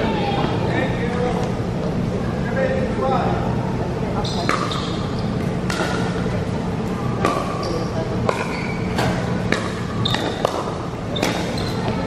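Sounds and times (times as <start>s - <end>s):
chatter of voices: 0.0s - 12.0s.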